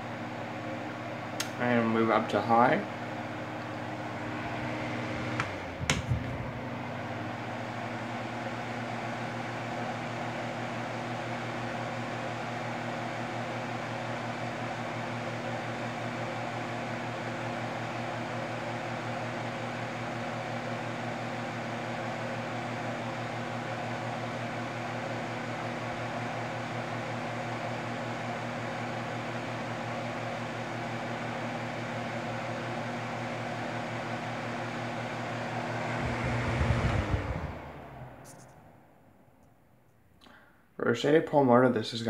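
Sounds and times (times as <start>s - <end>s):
table fan running: 0.0s - 39.4s.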